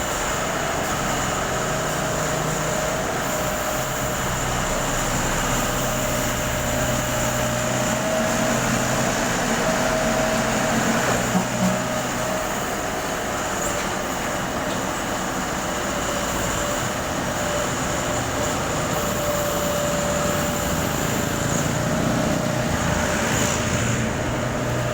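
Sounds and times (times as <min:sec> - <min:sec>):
backhoe diesel engine whining: 0:00.0 - 0:24.9.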